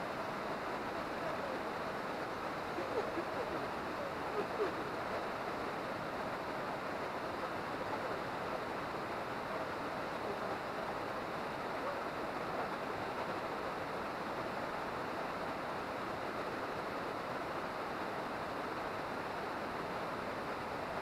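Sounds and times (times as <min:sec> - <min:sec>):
waterfall rushing into pool: 0:00.0 - 0:21.0.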